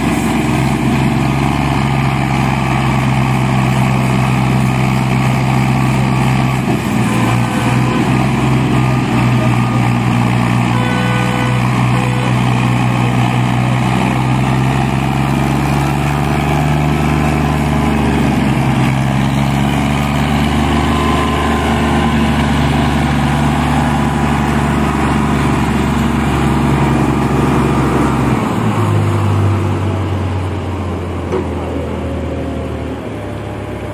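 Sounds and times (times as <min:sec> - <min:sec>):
tractor engines under heavy load: 0:00.0 - 0:33.9.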